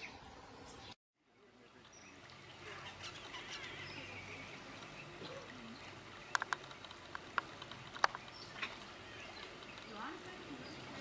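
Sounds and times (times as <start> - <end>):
faint outdoor ambience: 0.0 - 11.0
bird chirps: 1.8 - 11.0.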